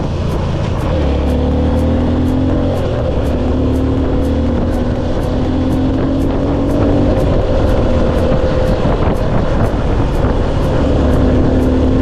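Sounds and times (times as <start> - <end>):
motorcycle engine running: 0.0 - 12.0
regular high ticking: 0.0 - 12.0.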